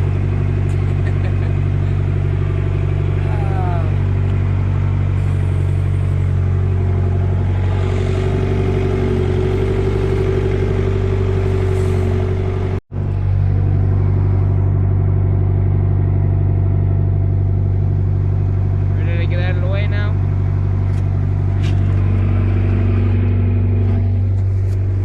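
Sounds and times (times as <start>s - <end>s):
excavator diesel engine running: 0.0s - 25.0s
high whine: 0.0s - 25.0s.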